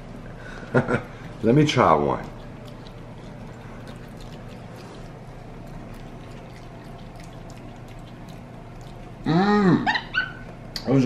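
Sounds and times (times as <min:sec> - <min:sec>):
wet chewing and crunching: 0:00.0 - 0:10.9
steady low hum: 0:00.0 - 0:11.0.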